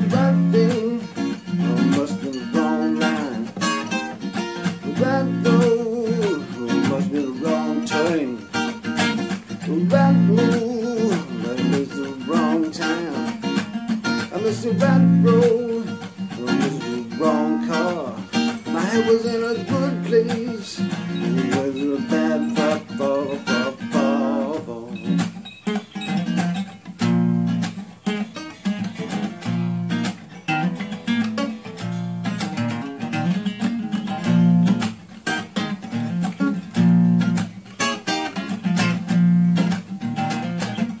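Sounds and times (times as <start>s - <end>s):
acoustic guitar strumming chords: 0.0s - 41.0s.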